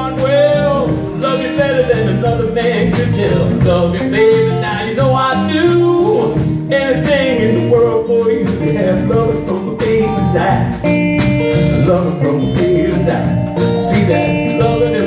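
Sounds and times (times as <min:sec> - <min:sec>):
live blues band playing: 0:00.0 - 0:15.0.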